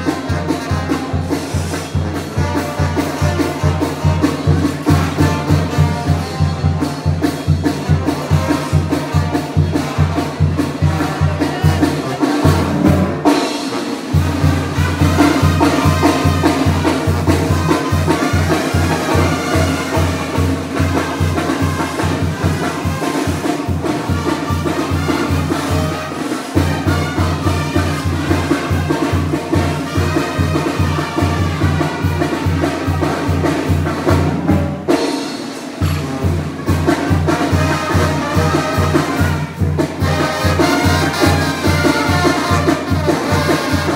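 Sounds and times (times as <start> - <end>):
loud bass drum beat: 0.0 - 43.9
trumpets and trombones: 0.0 - 43.9.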